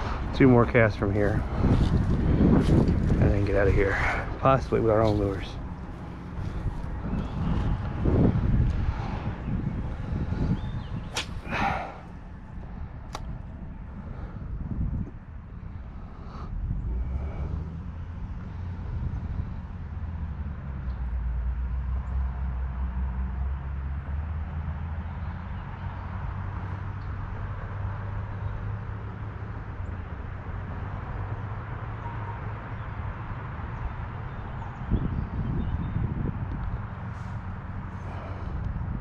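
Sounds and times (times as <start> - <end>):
wind buffeting microphone: 0.0 - 21.8, 25.5 - 39.0.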